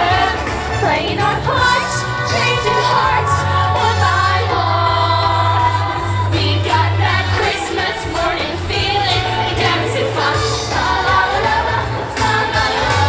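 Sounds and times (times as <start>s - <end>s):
girls singing together: 0.0s - 13.0s
music with steady bass line: 0.0s - 13.0s.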